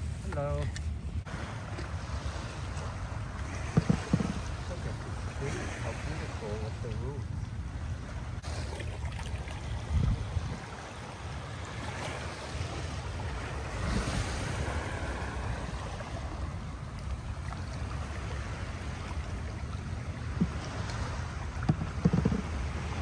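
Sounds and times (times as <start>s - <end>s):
water lapping and splashing: 0.0s - 23.0s
wind buffeting microphone: 0.0s - 23.0s.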